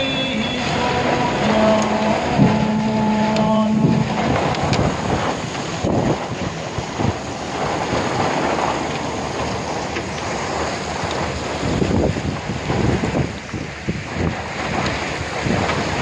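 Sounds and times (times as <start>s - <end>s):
heavy rain: 0.0s - 16.0s
wind buffeting microphone: 0.0s - 16.0s.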